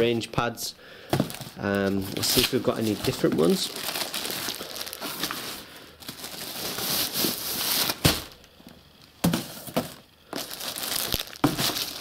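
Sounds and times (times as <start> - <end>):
plastic packaging rustling: 1.0 - 12.0.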